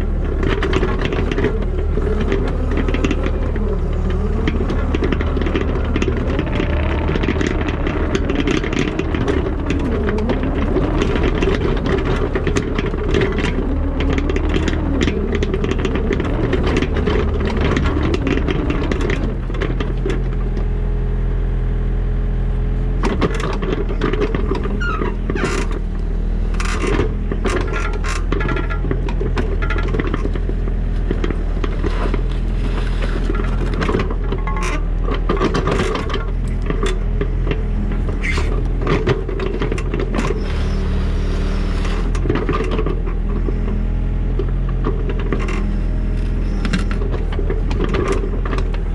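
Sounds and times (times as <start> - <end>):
bucket scraping and clanking: 0.0 - 20.5, 26.6 - 48.9
diesel engine running: 0.0 - 48.9.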